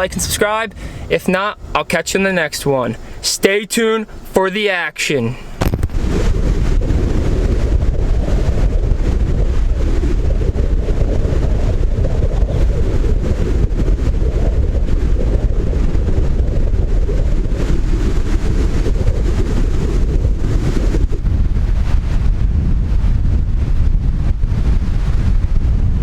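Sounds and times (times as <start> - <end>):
strong wind buffeting microphone: 0.0 - 3.2, 5.4 - 26.0.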